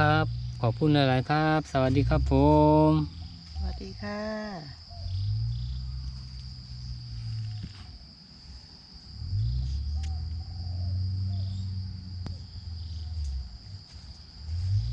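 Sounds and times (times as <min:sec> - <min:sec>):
low rumbling drone: 0:00.0 - 0:03.8, 0:04.9 - 0:14.9
insects trilling: 0:00.0 - 0:14.9.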